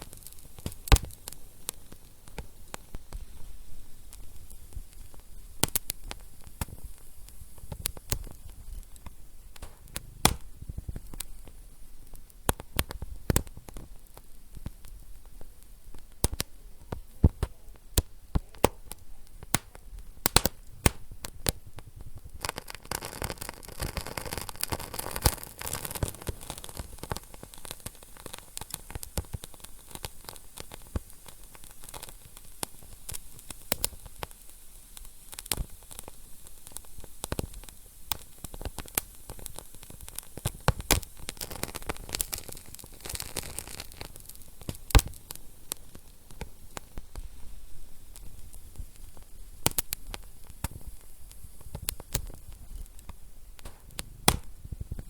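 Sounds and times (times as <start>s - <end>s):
steady hiss: 0.0s - 55.0s
wood fire crackling: 0.0s - 55.0s.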